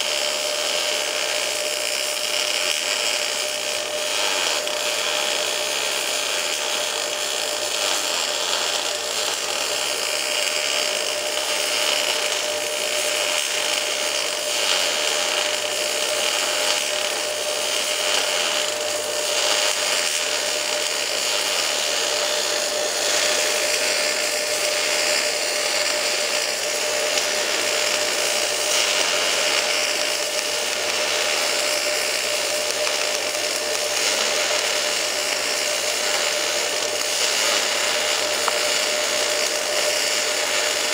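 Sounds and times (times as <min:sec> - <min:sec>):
welding arc hissing: 0:00.0 - 0:40.9.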